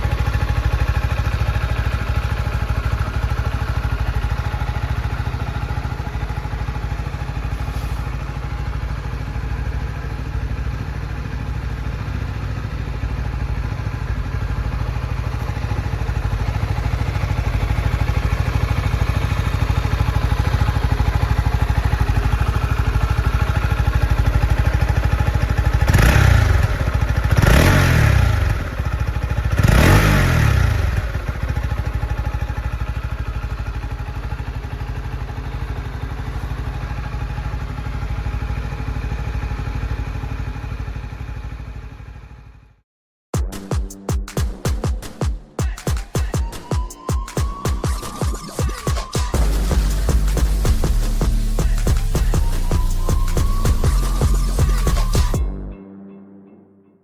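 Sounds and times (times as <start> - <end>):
motorcycle engine idling and revving: 0.0 - 42.8, 47.5 - 55.7.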